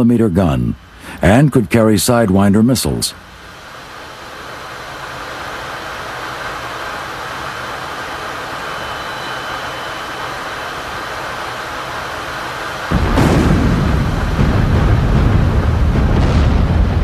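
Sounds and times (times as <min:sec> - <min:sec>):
jet aircraft roar: 0:00.0 - 0:17.0.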